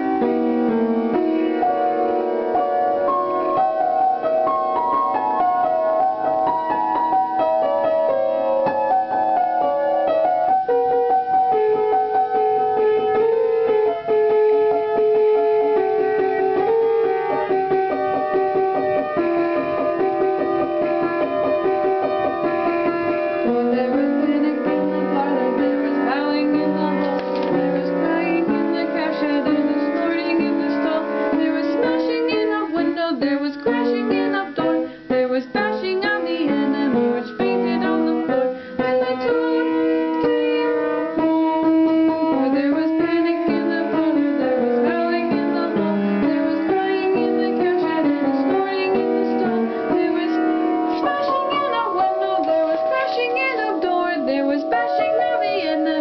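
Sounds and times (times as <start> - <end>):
piano with sliding melody: 0.0 - 56.0.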